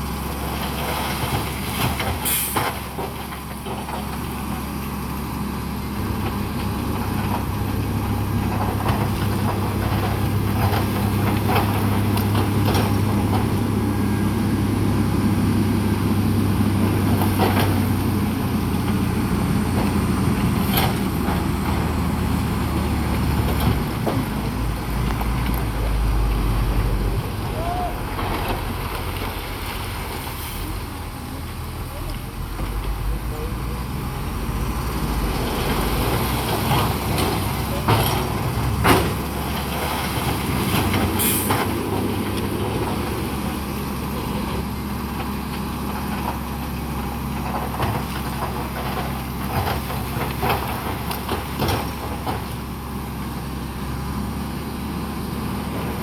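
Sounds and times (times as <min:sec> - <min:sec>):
earthmoving diesel engine under load: 0:00.0 - 0:56.0.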